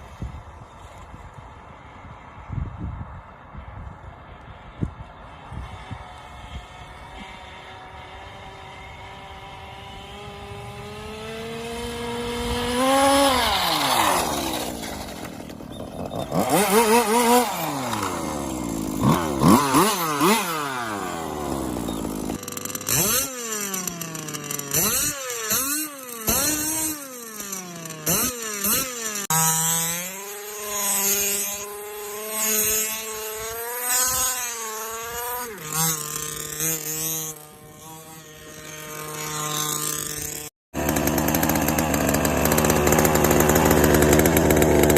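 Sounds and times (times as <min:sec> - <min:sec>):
small two-stroke engine revving: 0:05.3 - 0:44.9.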